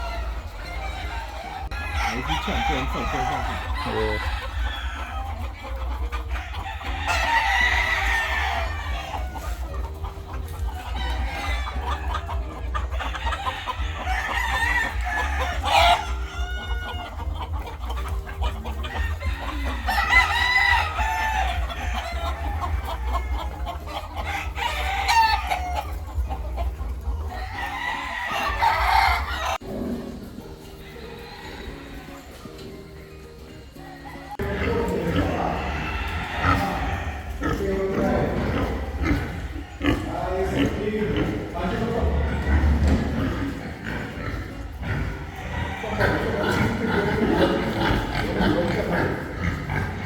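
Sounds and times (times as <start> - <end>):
chickens clucking: 0.0 - 50.0
roosters crowing: 0.0 - 50.0.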